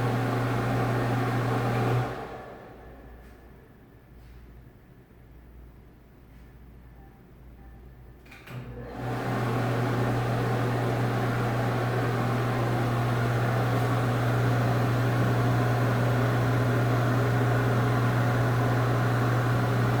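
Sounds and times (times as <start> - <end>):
exhaust fan running: 0.0 - 6.6, 8.5 - 20.0.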